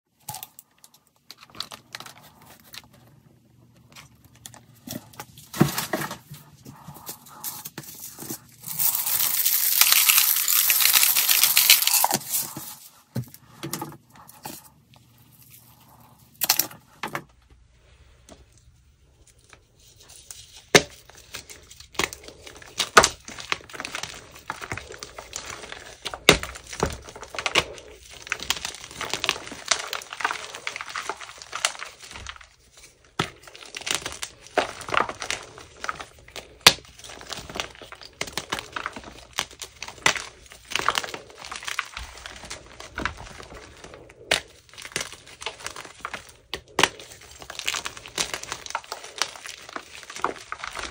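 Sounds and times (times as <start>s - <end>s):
chalk crunching and crumbling: 4.1s - 13.6s, 19.1s - 50.9s.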